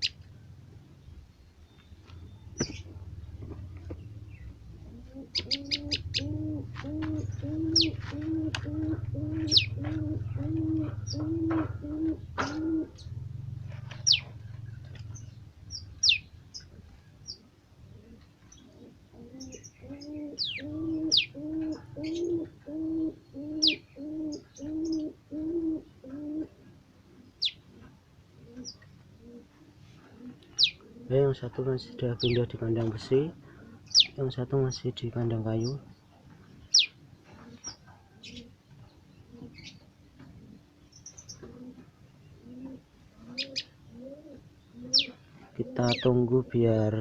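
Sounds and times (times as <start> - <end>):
small birds chirping: 0.0 - 26.1, 27.0 - 47.0
dove cooing: 2.5 - 47.0.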